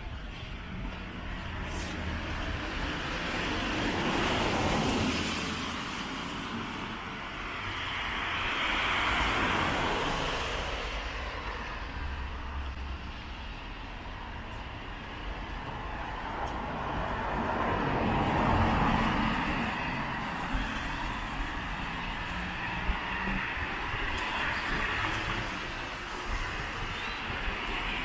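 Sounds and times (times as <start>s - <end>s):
vehicles passing on street: 0.0s - 28.0s.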